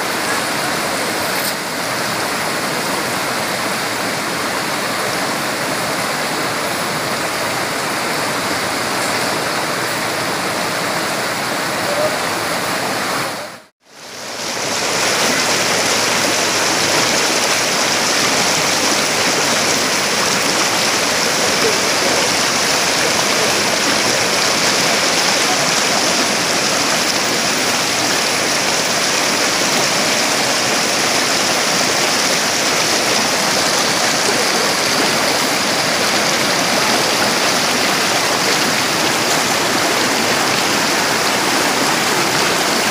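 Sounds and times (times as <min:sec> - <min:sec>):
river rushing over stones: 0:00.0 - 0:42.9.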